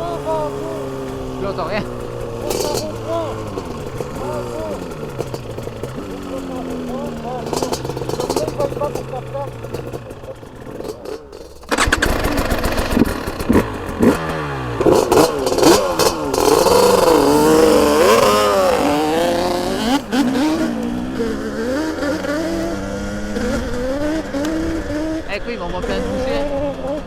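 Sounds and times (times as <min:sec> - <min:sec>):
two-stroke engines revving: 0:00.0 - 0:27.0.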